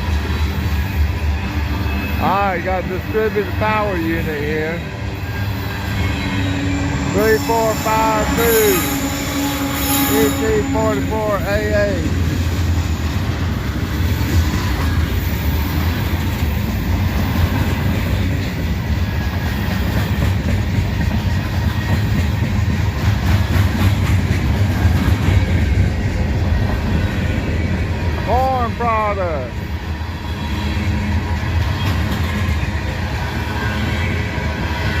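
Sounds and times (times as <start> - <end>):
freight train rumbling and rattling: 0.0 - 35.0.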